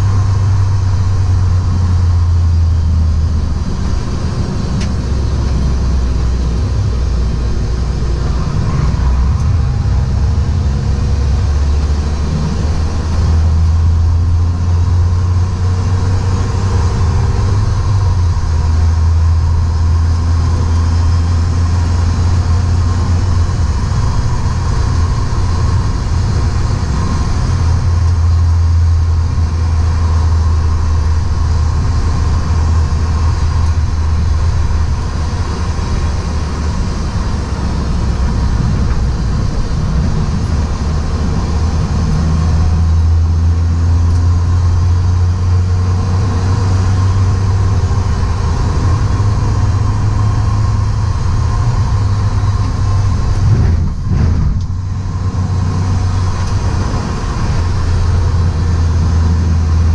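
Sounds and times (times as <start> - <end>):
car interior engine and road drone: 0.0 - 59.9.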